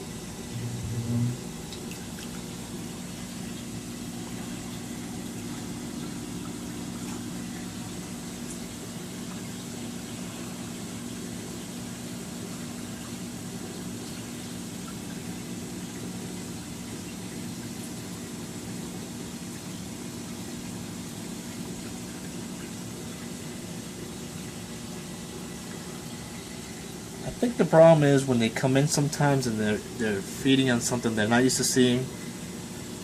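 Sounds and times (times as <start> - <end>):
aquarium pumps humming: 0.0 - 33.0
running water: 0.0 - 33.0.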